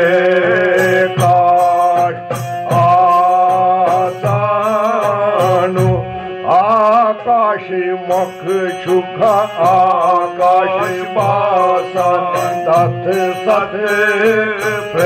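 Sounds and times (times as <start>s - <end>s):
regular drum beat: 0.0s - 6.1s, 8.1s - 15.0s
devotional singing with wavering notes: 0.0s - 15.0s.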